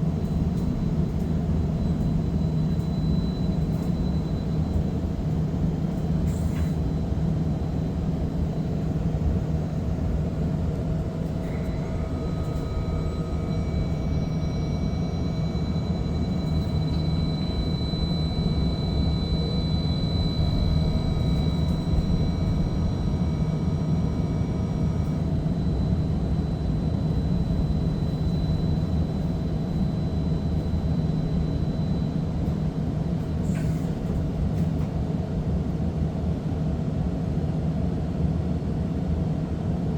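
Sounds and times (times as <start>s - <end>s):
thin steady whines: 0.0s - 35.2s
streetcar rumbling on rails: 0.0s - 36.2s.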